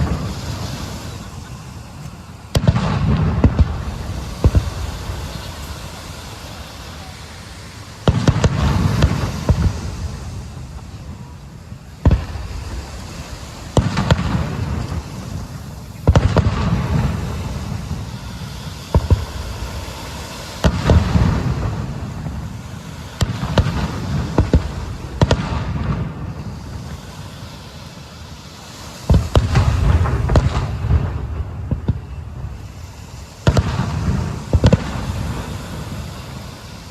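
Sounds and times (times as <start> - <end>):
fireworks booming: 0.0 - 36.9
rumbling echo and crackle: 0.0 - 36.9.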